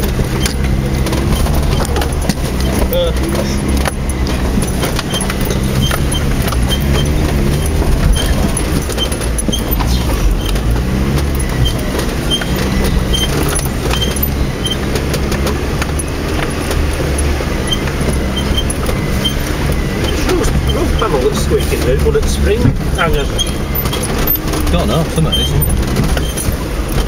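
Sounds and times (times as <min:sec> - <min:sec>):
body and suspension rattles: 0:00.0 - 0:27.0
car engine running: 0:00.0 - 0:27.0.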